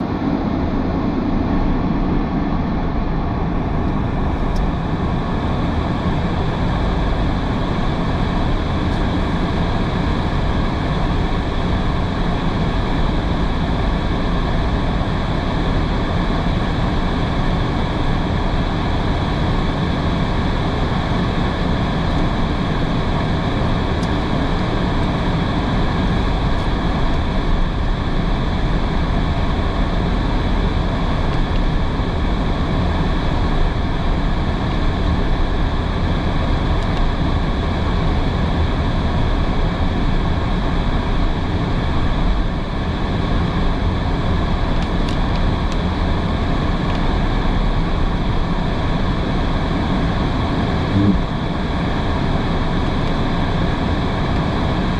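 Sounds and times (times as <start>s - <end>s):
low road rumble: 0.0s - 54.9s.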